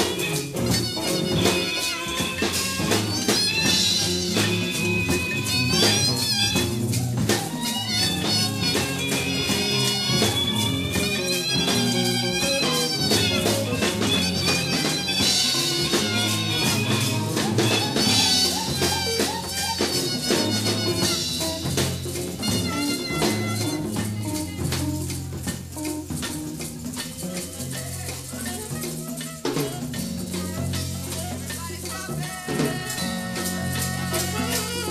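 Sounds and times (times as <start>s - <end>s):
bass line: 0.0s - 34.9s
drums: 0.0s - 34.9s
hand percussion and rattles: 0.0s - 34.9s.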